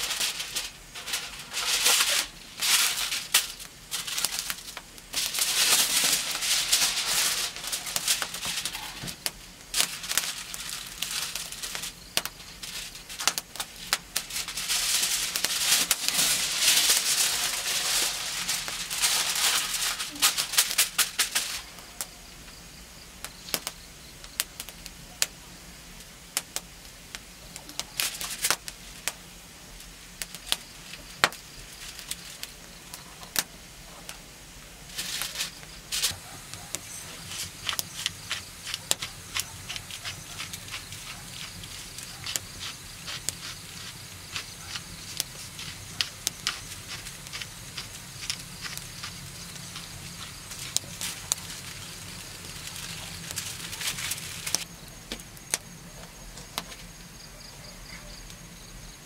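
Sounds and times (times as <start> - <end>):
aluminium foil crinkling: 0.0 - 22.3, 26.4 - 34.2, 34.8 - 57.0.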